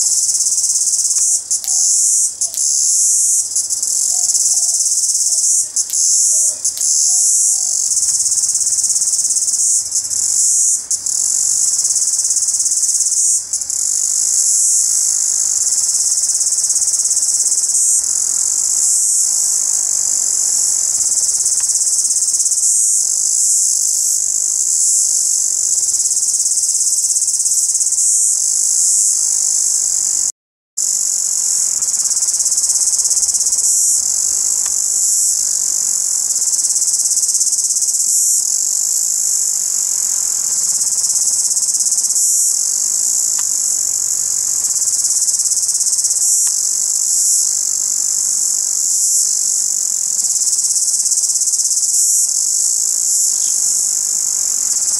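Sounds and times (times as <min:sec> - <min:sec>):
cicada buzzing: 0:00.0 - 0:54.9.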